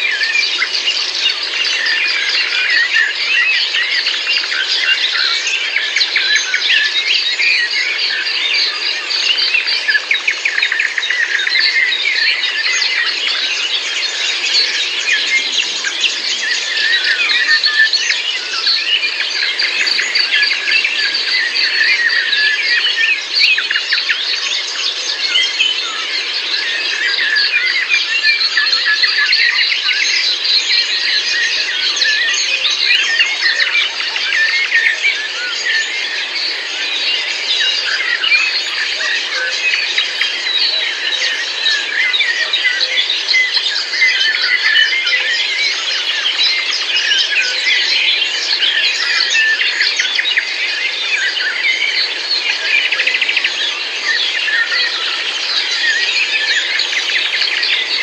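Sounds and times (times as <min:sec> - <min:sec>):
small birds singing: 0:00.0 - 0:58.0.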